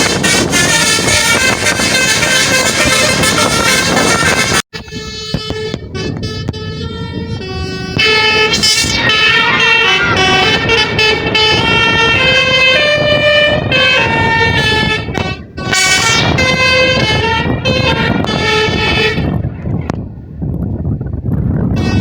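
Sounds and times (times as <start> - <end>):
air horn melody: 0.0 - 19.4, 21.7 - 22.0
engine and road rumble: 0.0 - 22.0.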